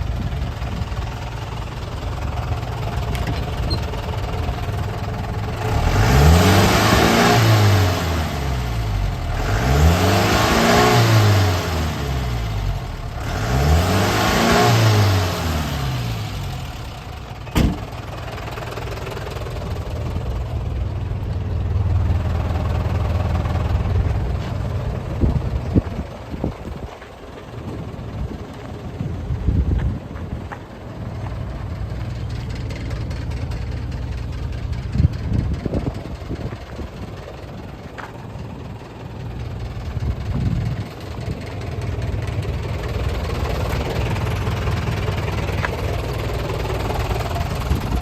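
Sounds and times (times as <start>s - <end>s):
diesel engine idling and revving: 0.0s - 48.0s.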